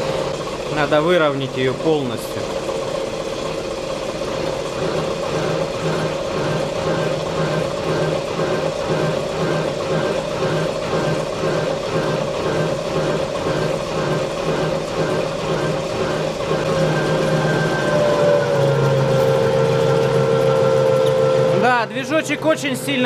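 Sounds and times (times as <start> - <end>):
lathe motor straining under load: 0.0 - 23.0
tool cutting steel: 4.4 - 23.0.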